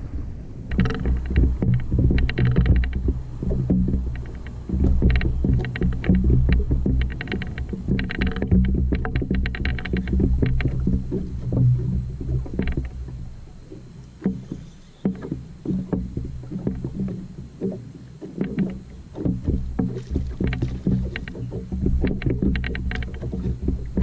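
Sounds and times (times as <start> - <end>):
low rumble: 0.0 - 18.0, 18.6 - 24.0
waves slapping boat hull: 0.0 - 24.0.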